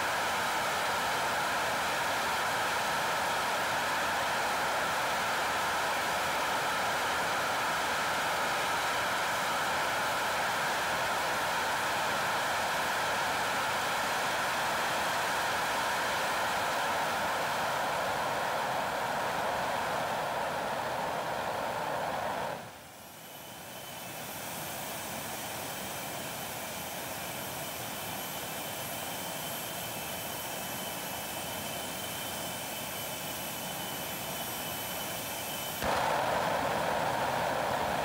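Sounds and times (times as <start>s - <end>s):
turbine high whine: 0.0s - 38.0s
jet engine afterburner roar: 0.1s - 38.0s.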